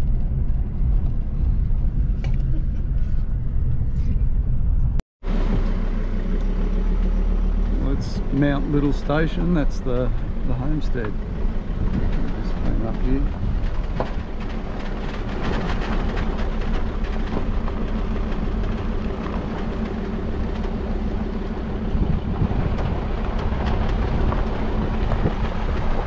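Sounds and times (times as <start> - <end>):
tyre and road noise: 0.0 - 26.0
vehicle engine hum: 0.0 - 26.0.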